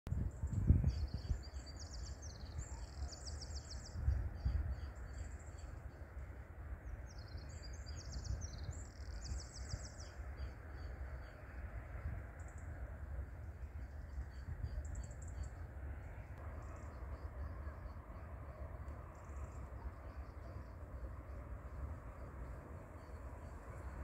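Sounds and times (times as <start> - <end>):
songbird chirps and trills: 0.2 - 24.0.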